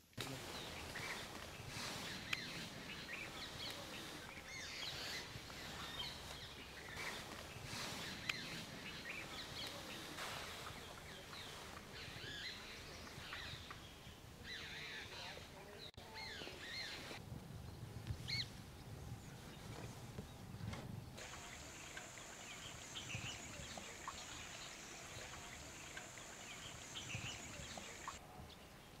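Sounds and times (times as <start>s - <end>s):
birds chirping: 0.0s - 29.0s
outdoor background hiss: 0.0s - 29.0s.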